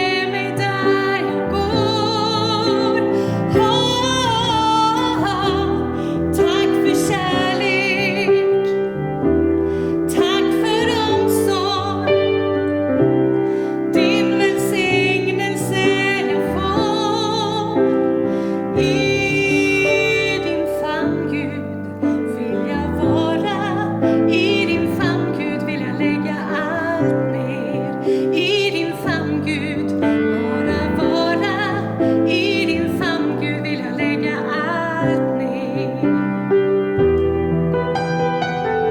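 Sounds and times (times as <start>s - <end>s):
woman singing with vibrato: 0.0s - 9.0s, 10.0s - 12.7s, 13.8s - 18.0s, 18.7s - 36.2s
piano accompaniment: 0.0s - 38.9s.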